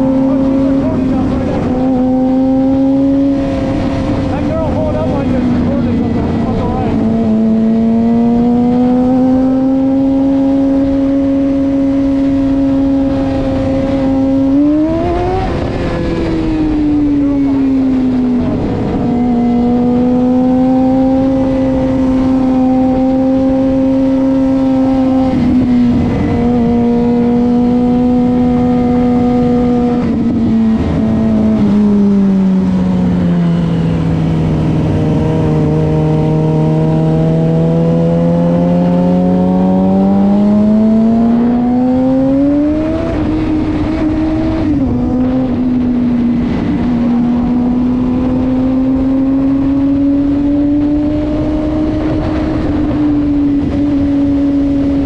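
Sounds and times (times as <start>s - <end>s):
motorcycle engine running: 0.0s - 55.0s
wind noise: 0.0s - 55.0s.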